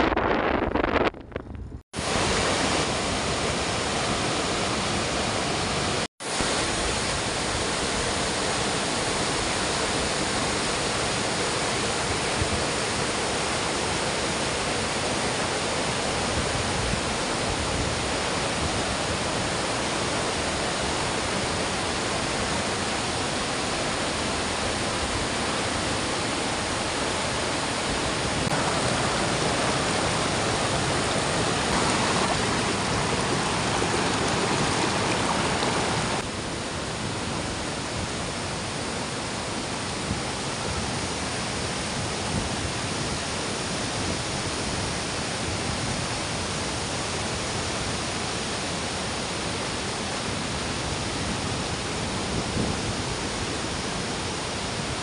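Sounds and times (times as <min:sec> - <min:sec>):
stream water rushing over rocks: 0:02.0 - 0:55.0.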